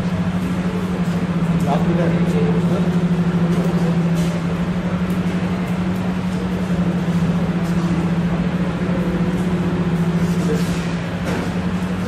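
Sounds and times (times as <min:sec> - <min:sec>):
loud steady low hum: 0:00.0 - 0:12.0.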